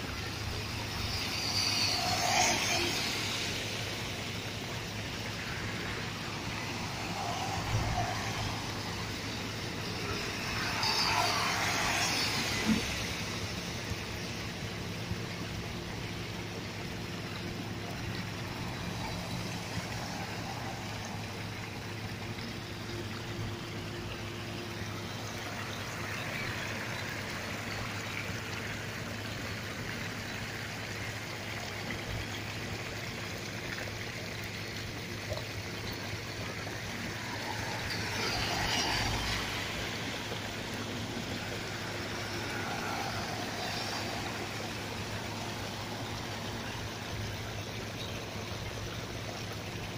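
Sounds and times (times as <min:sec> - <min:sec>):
engine hum: 0:00.0 - 0:49.9
floodwater rushing and splashing: 0:00.0 - 0:49.9.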